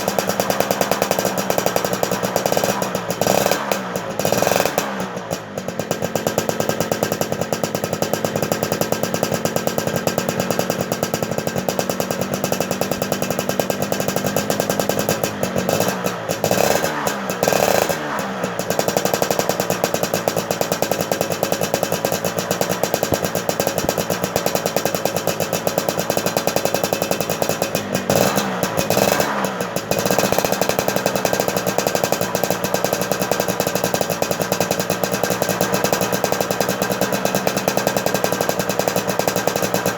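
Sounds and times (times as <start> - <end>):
motorcycle engine running rattly: 0.0 - 39.9.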